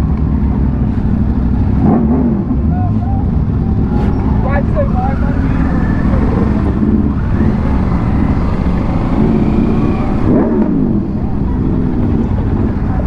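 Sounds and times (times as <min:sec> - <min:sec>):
vehicle engine rumbling and revving: 0:00.0 - 0:13.0.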